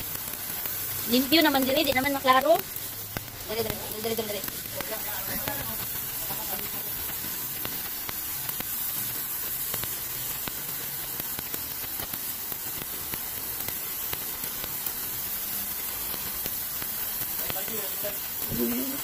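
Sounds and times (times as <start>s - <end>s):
water jet hissing onto concrete: 0.0s - 19.0s.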